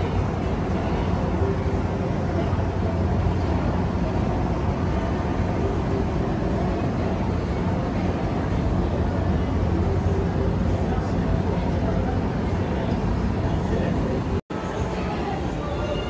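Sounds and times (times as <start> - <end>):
faint background voices: 0.0 - 16.0
indoor hum and rumble: 0.0 - 16.0.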